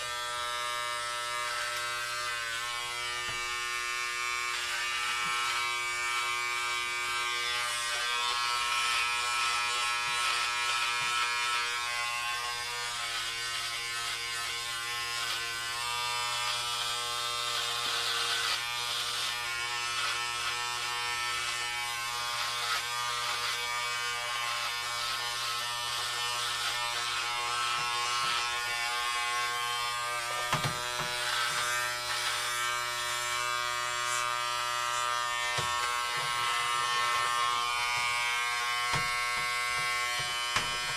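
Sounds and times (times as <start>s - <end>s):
blades rustling through hair: 0.0s - 40.9s
electric hair clippers buzzing: 0.0s - 40.9s.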